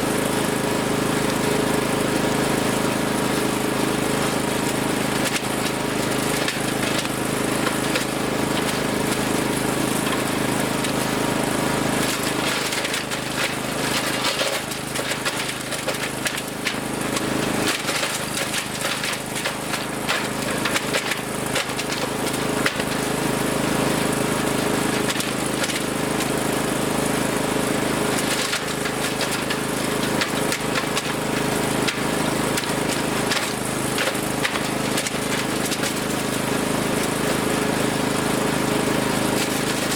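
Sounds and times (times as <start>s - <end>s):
wood chipper engine running: 0.0s - 39.9s
branches cracking in chipper: 4.4s - 39.9s.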